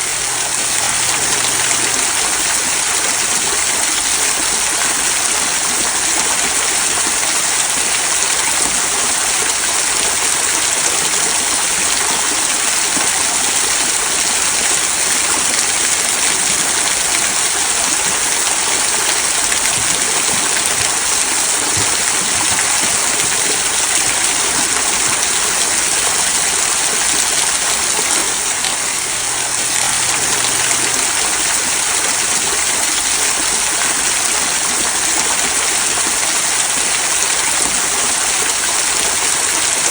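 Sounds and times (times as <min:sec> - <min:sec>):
waterfall splashing over stones: 0:00.0 - 0:39.9.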